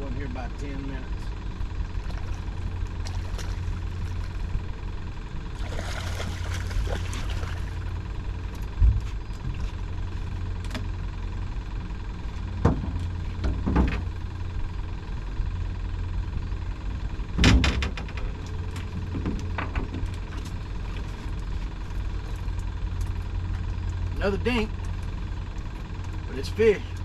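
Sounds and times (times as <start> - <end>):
boat motor idling: 0.0 - 27.0.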